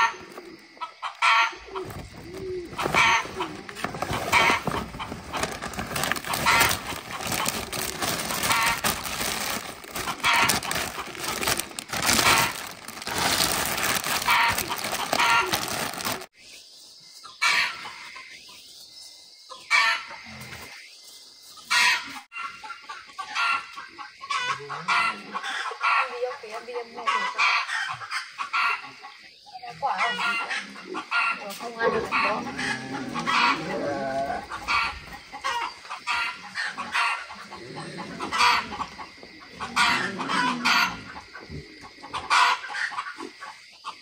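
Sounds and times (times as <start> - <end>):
chickens clucking: 0.0 - 16.3, 17.2 - 18.6, 19.5 - 20.9, 21.6 - 44.0.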